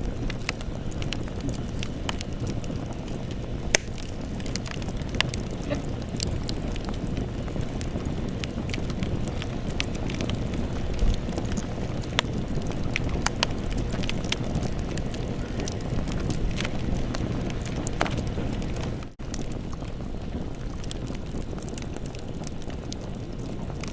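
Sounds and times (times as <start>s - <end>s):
burning wood crackling: 0.0s - 23.9s
campfire flames rumbling: 0.0s - 23.9s.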